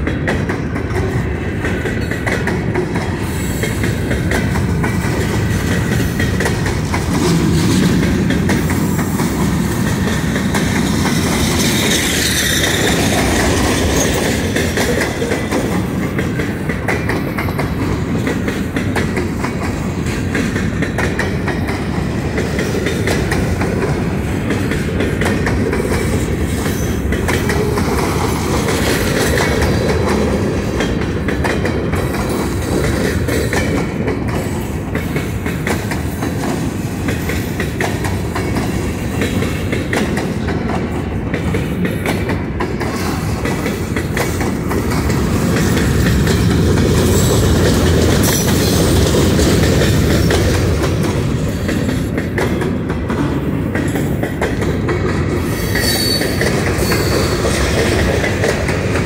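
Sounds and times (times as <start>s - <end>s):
train cars rolling past: 0.0s - 59.0s
wheels clicking over rail joints: 0.0s - 59.0s.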